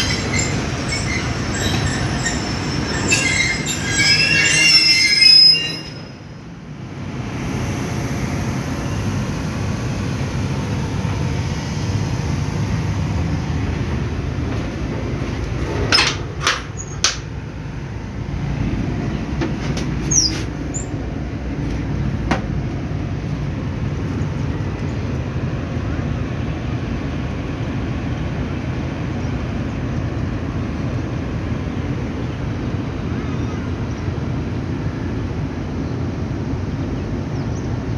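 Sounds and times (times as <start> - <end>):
train wheels rumbling: 0.0 - 37.9.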